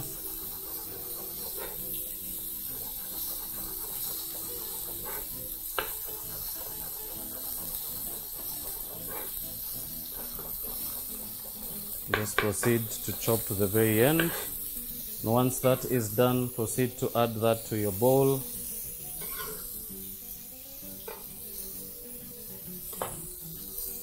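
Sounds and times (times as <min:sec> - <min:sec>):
quiet sizzle of grilling meat: 0:00.0 - 0:24.0.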